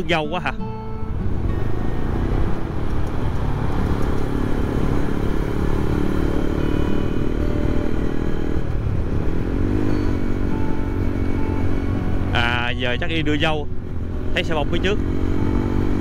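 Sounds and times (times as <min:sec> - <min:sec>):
motorcycle engine drone: 0:00.0 - 0:16.0
wind and road noise: 0:00.0 - 0:16.0
rising and falling tone: 0:01.2 - 0:14.3.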